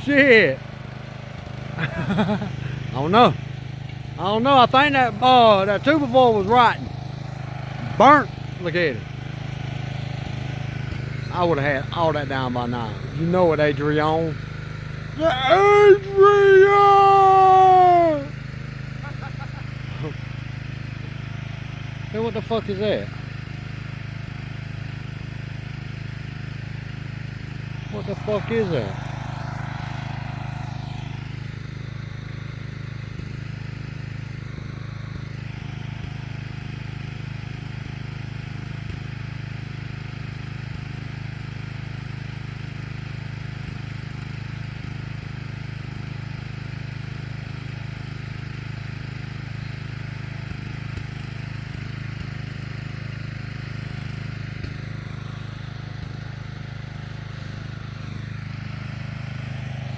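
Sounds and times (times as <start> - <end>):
lawnmower engine running: 0.0 - 59.9.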